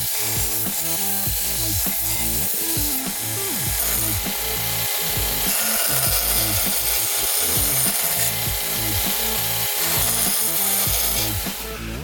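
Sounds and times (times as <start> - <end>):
background music with bass line: 0.0 - 12.0
belt sander sanding: 0.0 - 12.0.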